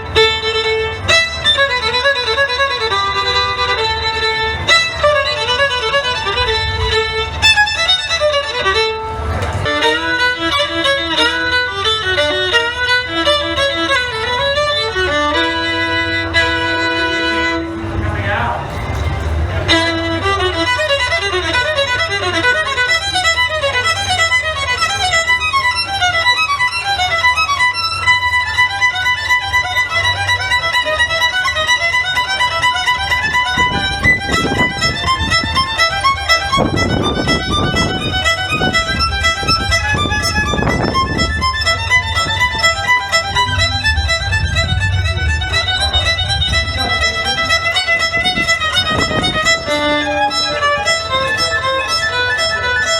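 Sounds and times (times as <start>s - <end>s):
solo violin fast notes: 0.0s - 52.9s.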